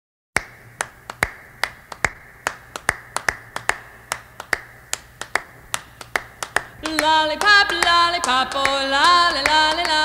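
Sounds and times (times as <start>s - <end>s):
finger snaps keeping a beat: 0.4s - 10.0s.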